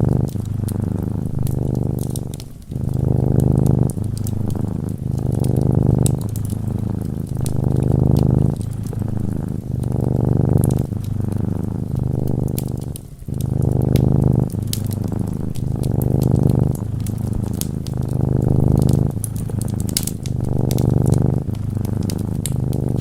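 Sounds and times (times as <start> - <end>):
cat purring: 0.0 - 23.0
fireplace crackles: 0.0 - 23.0.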